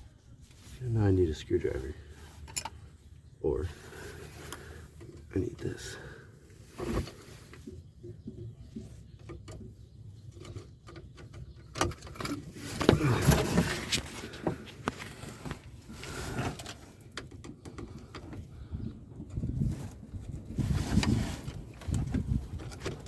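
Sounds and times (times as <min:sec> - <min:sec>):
car parts scraping and rattling: 0:00.4 - 0:23.0.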